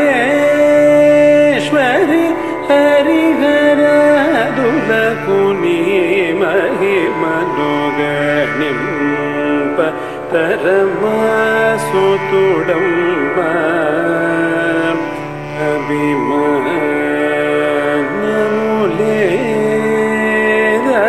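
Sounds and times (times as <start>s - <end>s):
man singing classical melody: 0.0s - 21.0s.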